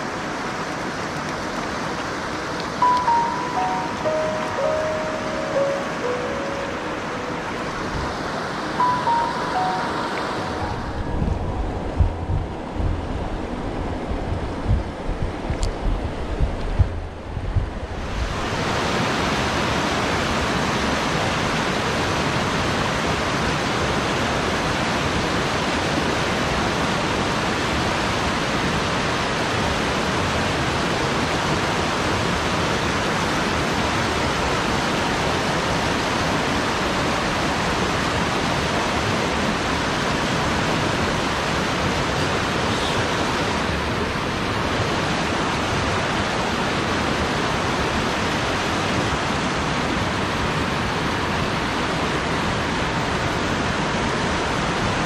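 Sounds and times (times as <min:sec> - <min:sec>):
stream water flowing over rocks: 0:00.0 - 0:14.0, 0:17.8 - 0:55.0.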